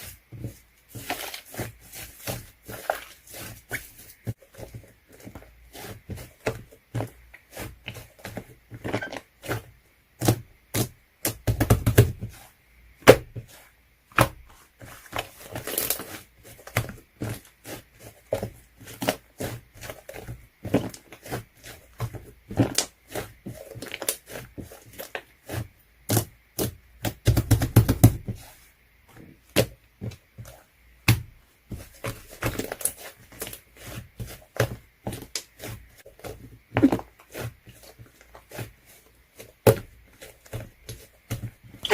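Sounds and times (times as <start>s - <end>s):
crackling slime squishes: 0.0s - 12.5s, 13.1s - 41.9s.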